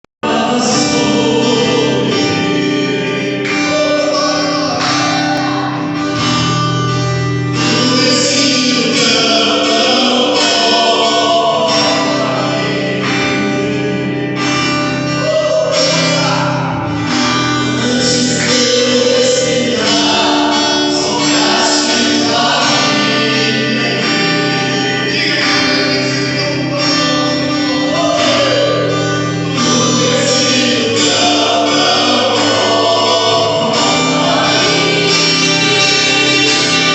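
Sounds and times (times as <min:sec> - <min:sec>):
gospel worship music: 0:00.2 - 0:36.9
voices singing: 0:00.2 - 0:36.9.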